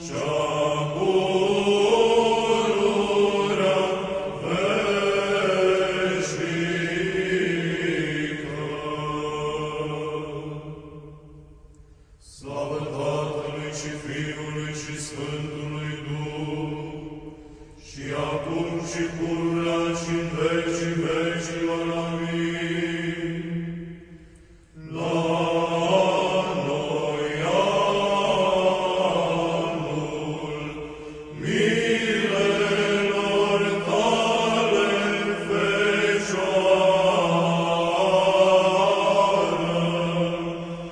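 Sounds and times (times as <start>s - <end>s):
men singing a chant: 0.0s - 10.6s, 12.3s - 17.2s, 17.8s - 23.6s, 24.8s - 40.9s
low held vocal drone: 0.0s - 11.6s, 12.2s - 40.9s.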